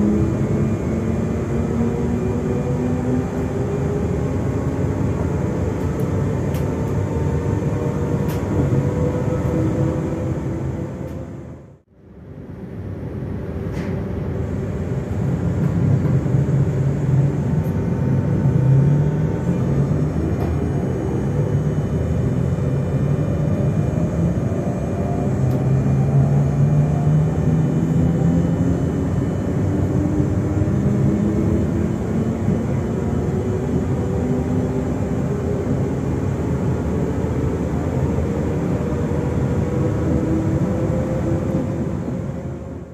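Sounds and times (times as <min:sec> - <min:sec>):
train rumble: 0:00.0 - 0:42.9.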